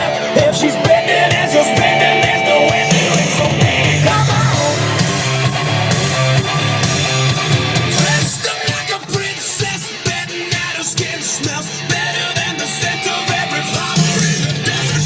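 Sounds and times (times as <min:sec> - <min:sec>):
heavy bass line: 0:00.0 - 0:15.0
loud music with singing: 0:00.0 - 0:15.0.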